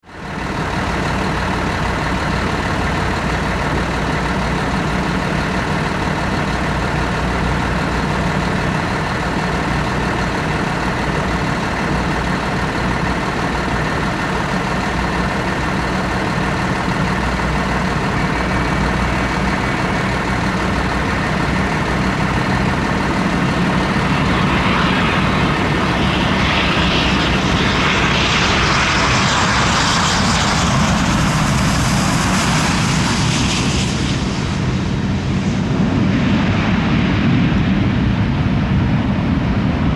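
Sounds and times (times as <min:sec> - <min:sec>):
aircraft engine drone and hiss: 0:00.0 - 0:39.9.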